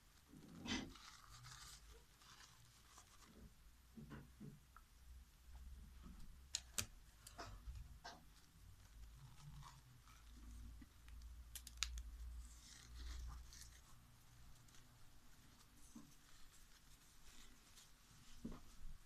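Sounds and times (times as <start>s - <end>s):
paper rustling: 0.2s - 3.5s, 6.6s - 19.0s.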